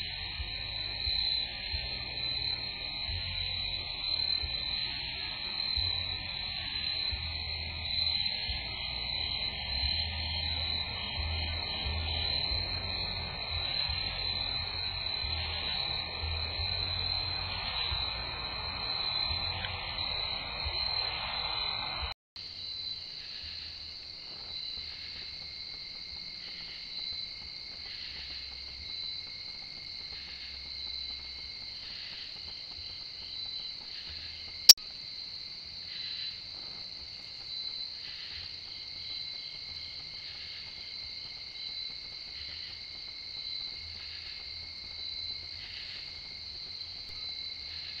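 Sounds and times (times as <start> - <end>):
insects trilling: 0.0 - 21.8, 22.4 - 48.0
rhythmic insect chirp: 0.0 - 21.8, 22.4 - 48.0.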